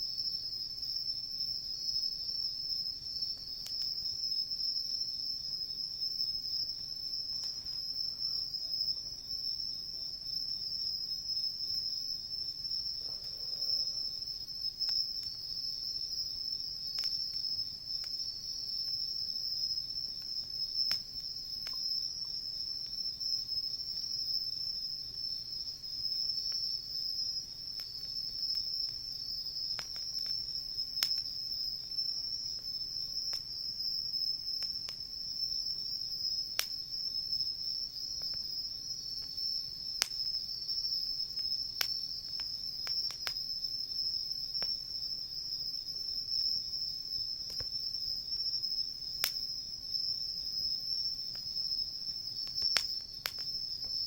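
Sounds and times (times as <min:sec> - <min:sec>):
crickets and insects trilling: 0:00.0 - 0:54.0
campfire pops and crackles: 0:00.4 - 0:54.0.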